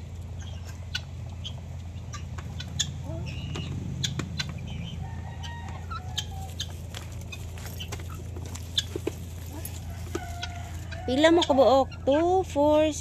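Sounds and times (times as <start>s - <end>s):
chickens pecking at grain: 0.0s - 12.2s
chickens clucking softly: 0.2s - 12.2s.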